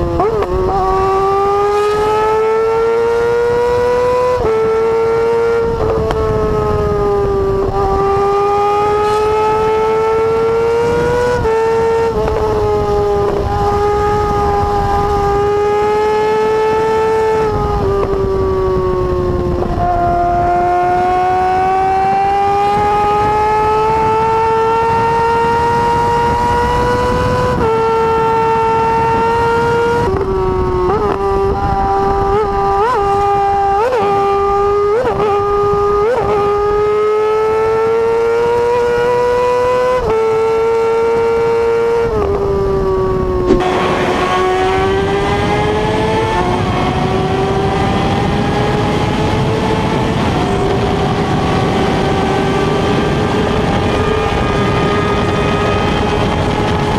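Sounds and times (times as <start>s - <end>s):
motorcycle engine revving: 0.0s - 56.9s
wind noise: 0.0s - 56.9s.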